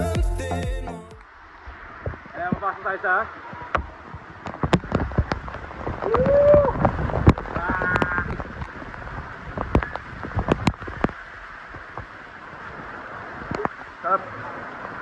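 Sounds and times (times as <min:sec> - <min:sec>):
waterfall splashing: 0:01.1 - 0:15.0.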